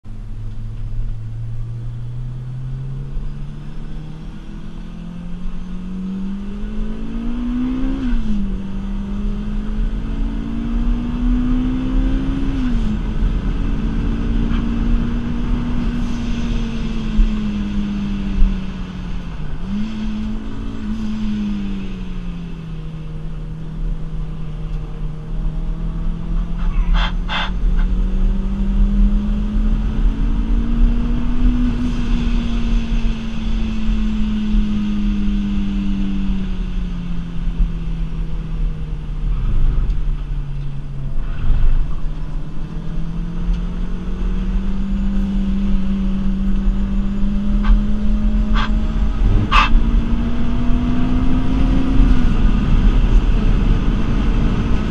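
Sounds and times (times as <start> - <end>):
car engine accelerating: 0.0 - 54.9
road and tyre rumble: 0.0 - 54.9.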